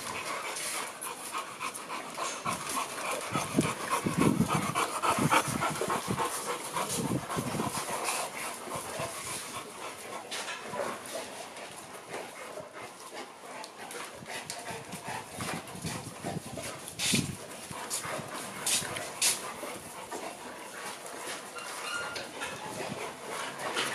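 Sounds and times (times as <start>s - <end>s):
dogs panting and whining: 0.0s - 23.9s.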